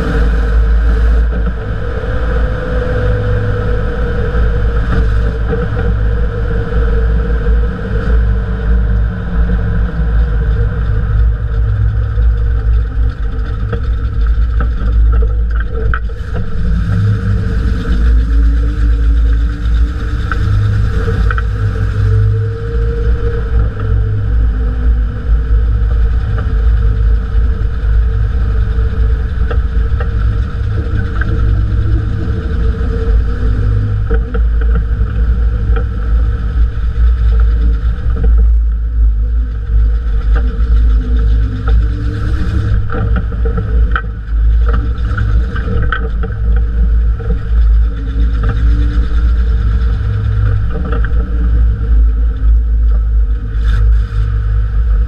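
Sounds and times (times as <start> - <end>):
droning hum: 0.0 - 55.0
tyre and drivetrain rumble: 0.0 - 55.0.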